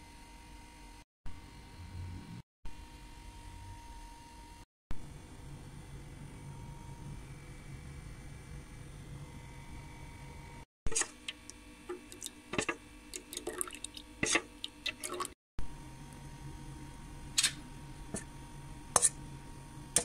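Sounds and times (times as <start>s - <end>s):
low room hum: 0.4s - 20.0s.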